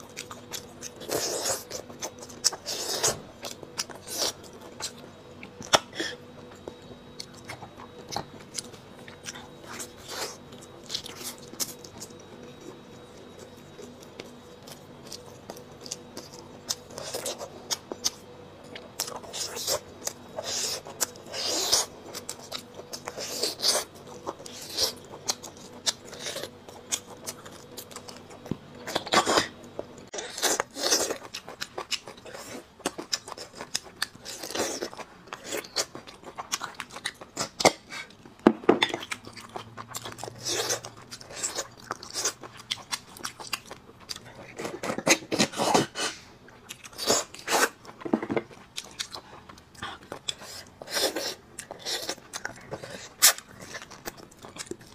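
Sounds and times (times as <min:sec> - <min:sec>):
person chewing and crunching: 0:00.0 - 0:54.9.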